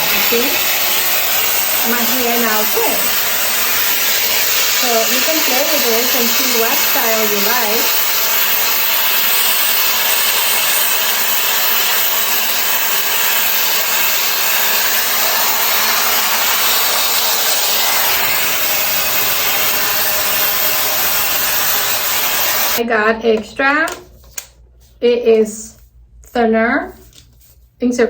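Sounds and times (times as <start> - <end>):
air styler blowing air: 0.0 - 22.8.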